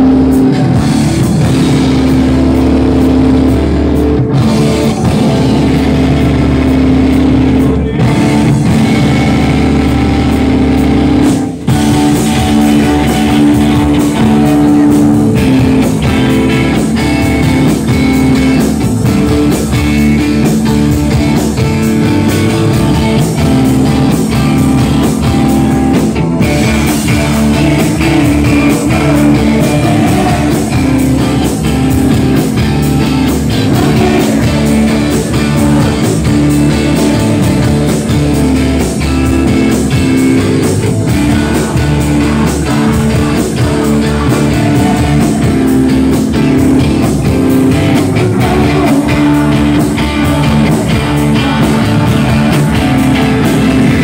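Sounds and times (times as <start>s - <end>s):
drums: 0.0s - 54.0s
electric guitar: 0.0s - 54.0s
rock band playing live: 0.0s - 54.0s.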